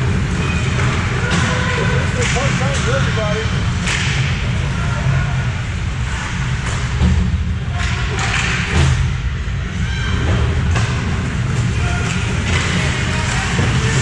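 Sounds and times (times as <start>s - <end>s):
low rink rumble: 0.0s - 14.0s.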